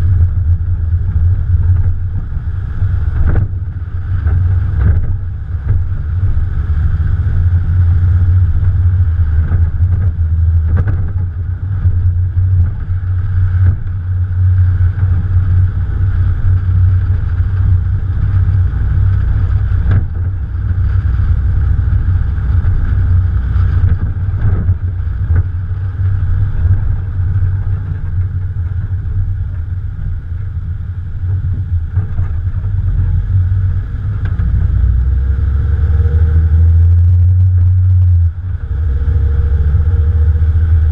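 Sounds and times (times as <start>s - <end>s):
car engine rumbling: 0.0s - 40.9s
wind buffeting microphone: 0.0s - 40.9s.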